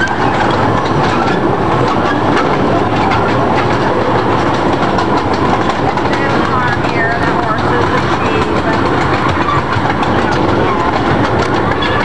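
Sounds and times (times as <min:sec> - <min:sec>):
train rumbling on track: 0:00.0 - 0:12.0
wheels clicking over rail joints: 0:00.0 - 0:12.0.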